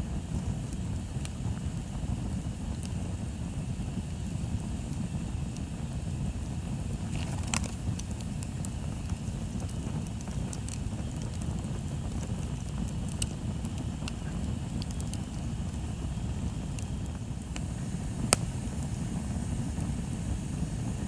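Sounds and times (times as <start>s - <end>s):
bonfire crackling: 0.0s - 21.0s
sharp fire pops: 0.0s - 21.0s
wind on microphone: 0.0s - 21.0s.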